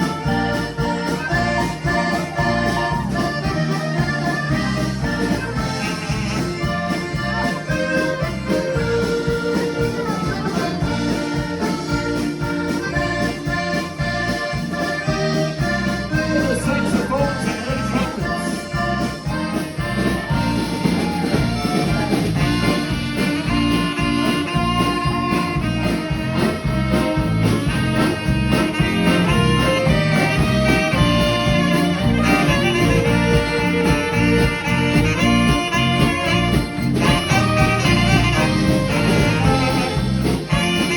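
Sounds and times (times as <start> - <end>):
accordion: 0.0 - 40.9
band playing lively tune: 0.0 - 40.9
brass: 0.0 - 40.9.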